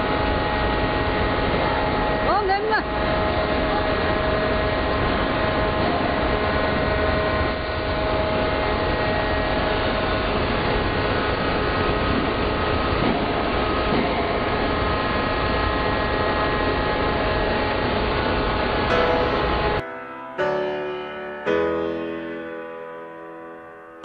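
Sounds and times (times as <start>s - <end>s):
constant whining tones: 0.0s - 24.0s
heavy machinery droning: 0.0s - 24.0s.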